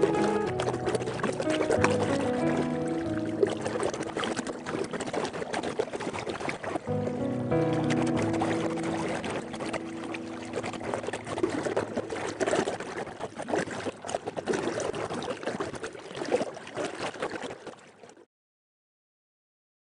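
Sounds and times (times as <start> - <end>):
river water burbling: 0.0 - 18.2.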